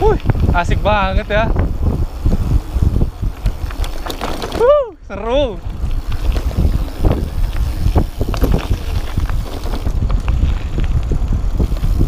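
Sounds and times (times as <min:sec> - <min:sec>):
mountain bike rattling: 0:00.0 - 0:12.0
wind buffeting microphone: 0:00.0 - 0:12.0.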